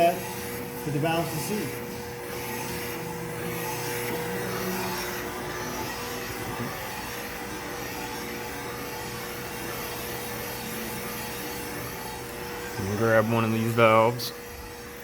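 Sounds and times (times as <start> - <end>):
constant machine hum: 0.0 - 15.0
machine whirring hiss: 0.0 - 15.0.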